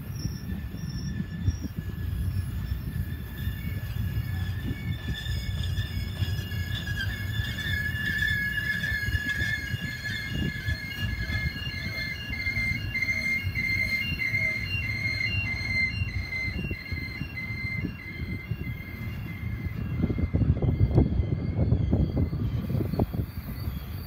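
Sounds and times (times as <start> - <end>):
high-pitched wheel squeal: 0.0 - 24.0
steel wheels rumbling on rail: 0.0 - 24.0.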